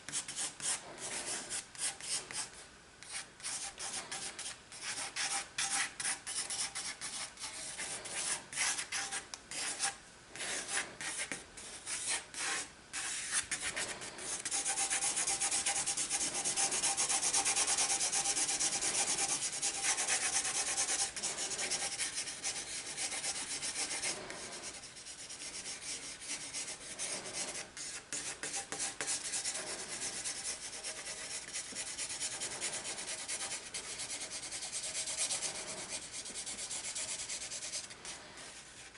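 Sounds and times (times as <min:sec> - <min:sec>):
pencil scribbling on paper: 0:03.1 - 0:38.2.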